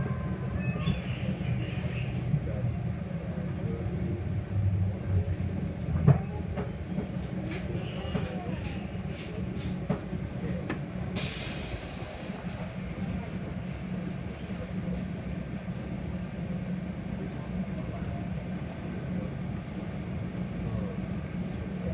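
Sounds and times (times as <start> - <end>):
train low rumble: 0.0 - 21.9.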